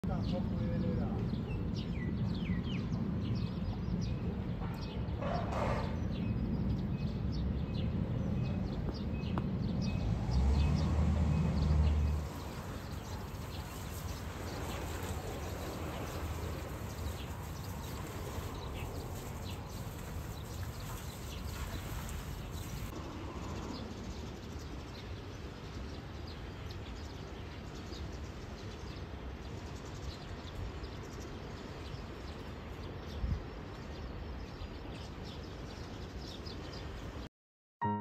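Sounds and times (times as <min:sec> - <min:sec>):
small birds chirping: 0:00.1 - 0:37.3.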